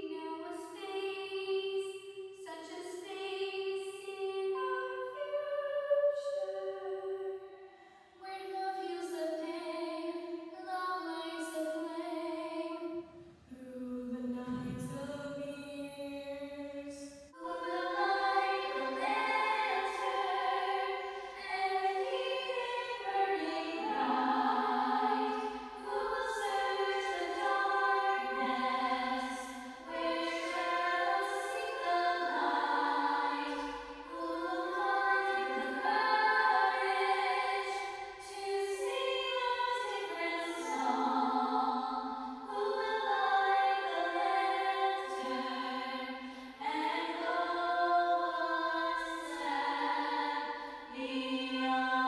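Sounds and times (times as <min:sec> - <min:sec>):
girls' choir singing: 0:00.0 - 0:07.4, 0:08.2 - 0:52.0.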